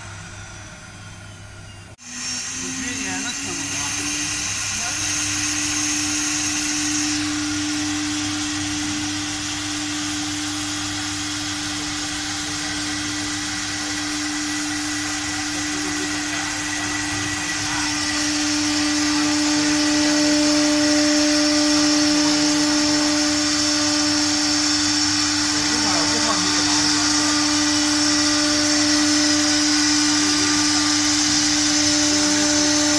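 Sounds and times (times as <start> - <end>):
router spindle whine: 0.0 - 32.9.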